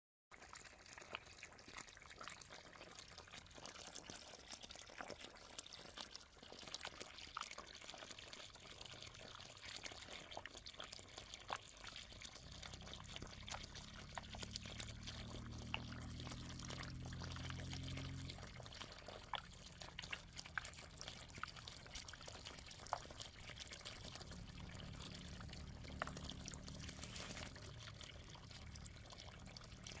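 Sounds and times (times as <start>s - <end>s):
water pouring and trickling: 0.3s - 30.0s.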